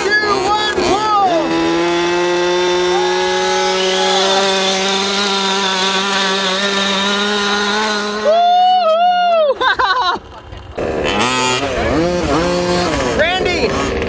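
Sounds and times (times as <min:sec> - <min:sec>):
small two-stroke engine revving high: 0:00.0 - 0:08.3, 0:10.7 - 0:14.0.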